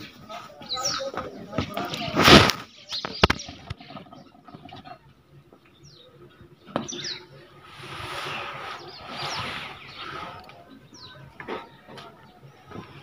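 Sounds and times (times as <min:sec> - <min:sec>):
noisy rustle: 0:00.0 - 0:05.0, 0:06.5 - 0:13.0
small birds chirping: 0:00.0 - 0:13.0.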